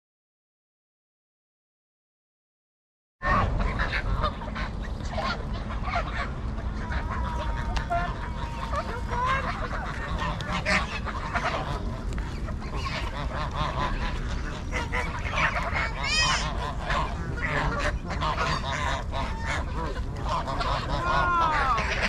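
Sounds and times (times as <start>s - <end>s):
geese honking: 3.2s - 22.0s.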